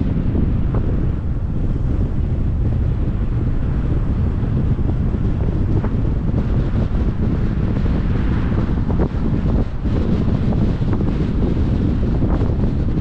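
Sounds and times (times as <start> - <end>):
low rumble of road noise: 0.0 - 13.0
wind buffeting microphone: 0.0 - 13.0.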